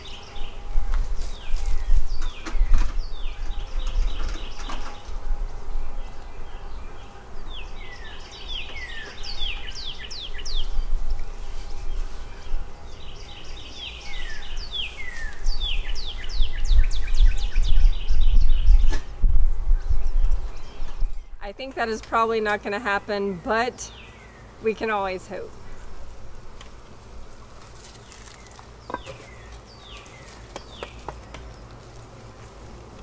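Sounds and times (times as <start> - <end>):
songbird singing: 0.0 - 26.1, 27.5 - 33.0.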